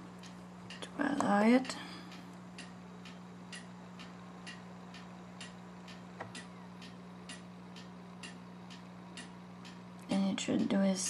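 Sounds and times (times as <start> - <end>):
low electrical hum: 0.0 - 11.0
light ticking: 0.1 - 11.0.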